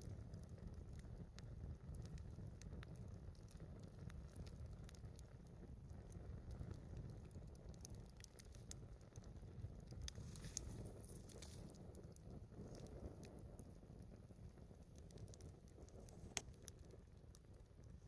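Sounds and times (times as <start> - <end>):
low steady rumble: 0.0 - 18.0
wood fire crackling and popping: 0.0 - 18.0.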